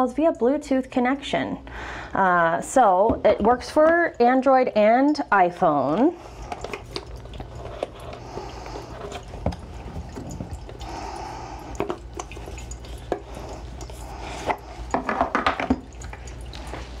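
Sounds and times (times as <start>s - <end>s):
water fountain trickling: 2.7s - 17.0s.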